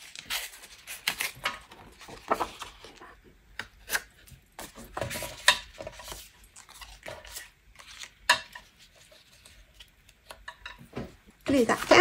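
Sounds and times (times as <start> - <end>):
paper rustling on a cutting mat: 0.0 - 3.2, 3.8 - 10.3.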